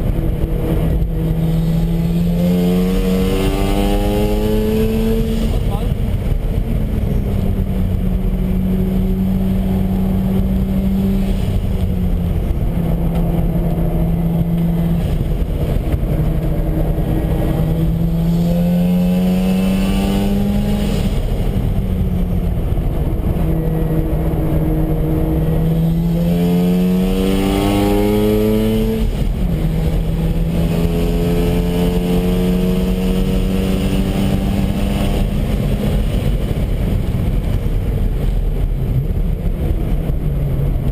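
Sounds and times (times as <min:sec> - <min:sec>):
rotary engine revving: 0:00.0 - 0:06.1, 0:08.5 - 0:21.7, 0:22.6 - 0:36.5.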